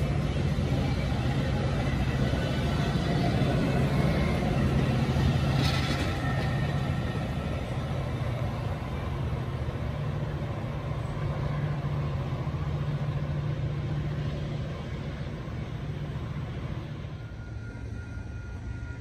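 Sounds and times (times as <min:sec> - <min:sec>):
diesel locomotive droning: 0:00.0 - 0:19.0
train cars rolling on rails: 0:00.0 - 0:19.0.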